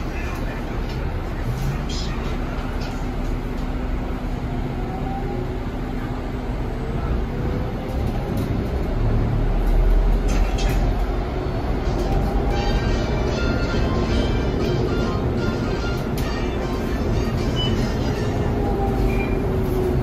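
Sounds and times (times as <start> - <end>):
bus road rumble: 0.0 - 20.0.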